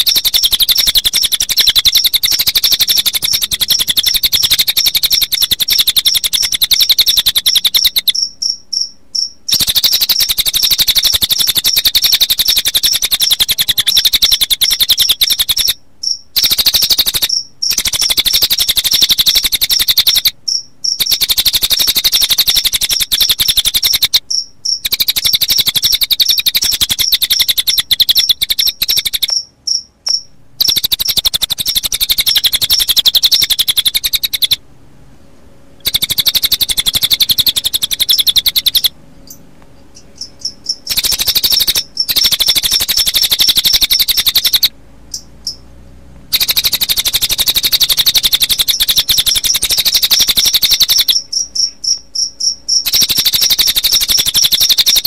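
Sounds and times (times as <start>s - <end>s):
bird song trilling: 0.0s - 34.6s, 35.8s - 45.7s, 46.3s - 55.0s
crickets chirping: 0.0s - 34.6s, 35.8s - 45.7s, 46.3s - 55.0s.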